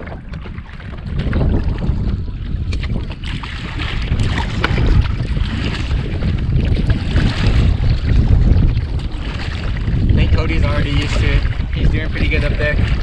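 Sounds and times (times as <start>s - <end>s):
water splashing around kayak: 0.0s - 13.0s
wind buffeting microphone: 0.0s - 13.0s.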